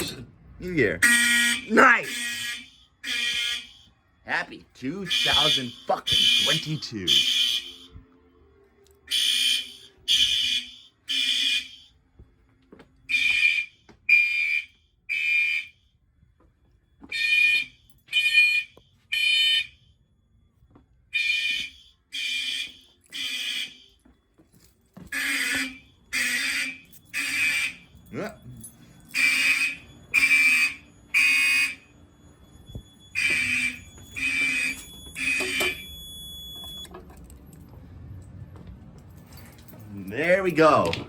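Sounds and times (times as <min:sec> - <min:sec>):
fire alarm horns blasting: 0:00.6 - 0:38.6, 0:39.3 - 0:41.0.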